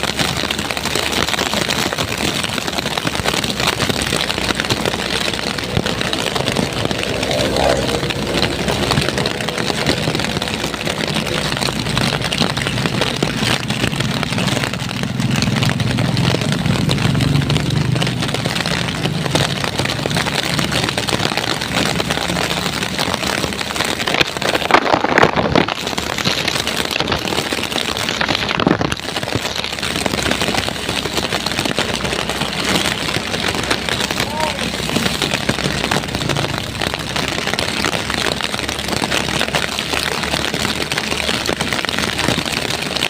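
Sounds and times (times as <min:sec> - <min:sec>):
heavy rain pouring: 0:00.0 - 0:43.0
rushes of noise: 0:00.0 - 0:43.0
vehicle engine running: 0:00.0 - 0:43.0.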